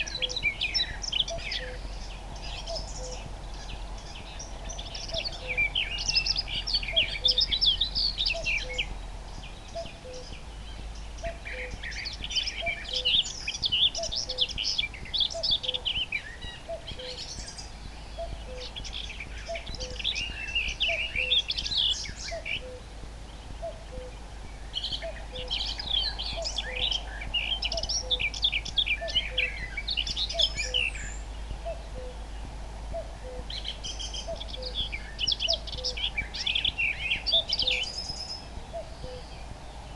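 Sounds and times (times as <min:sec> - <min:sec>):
cuckoo calling: 0:00.0 - 0:09.0, 0:09.6 - 0:32.3, 0:32.9 - 0:39.4
nightingale singing: 0:00.0 - 0:39.9.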